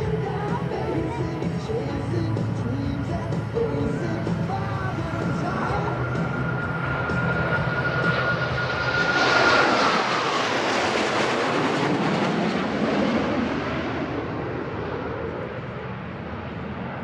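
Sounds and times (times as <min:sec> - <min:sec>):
jet passing with high whine: 0:00.0 - 0:17.0.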